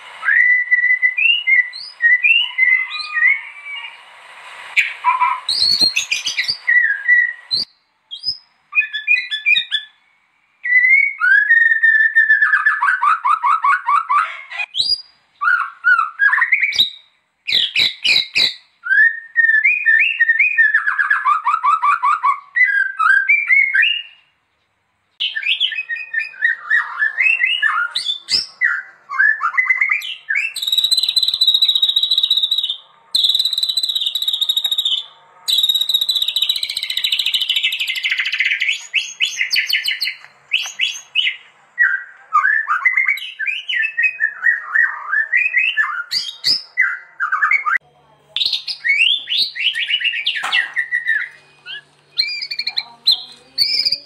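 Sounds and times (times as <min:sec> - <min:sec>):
bird singing whistles and trills: 0:00.2 - 0:04.0, 0:04.8 - 0:24.3, 0:25.2 - 0:47.8, 0:48.4 - 0:54.0.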